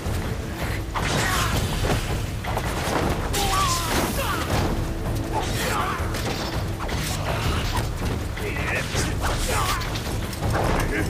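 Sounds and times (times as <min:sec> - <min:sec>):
dramatic film score: 0:00.0 - 0:11.0.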